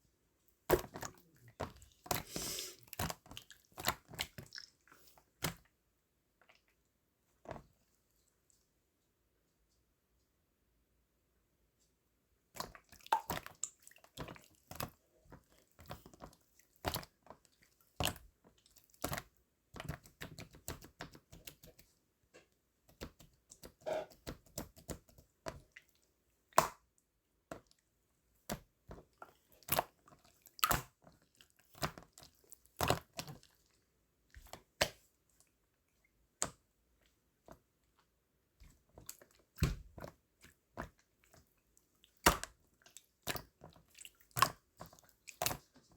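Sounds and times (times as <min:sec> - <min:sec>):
wet squishing and crackling: 0:00.6 - 0:07.8, 0:12.5 - 0:45.9.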